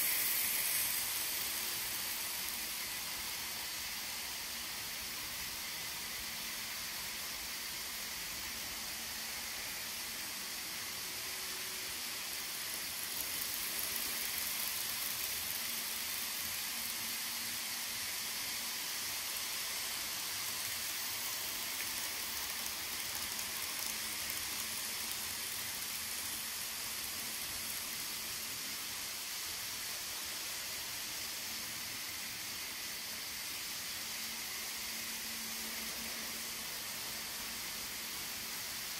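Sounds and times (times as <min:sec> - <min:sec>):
model trains running: 0:00.0 - 0:38.9.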